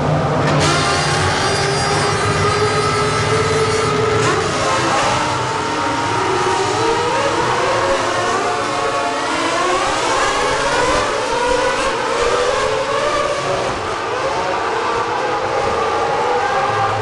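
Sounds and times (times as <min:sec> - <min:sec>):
racing car engines accelerating: 0:00.0 - 0:17.0.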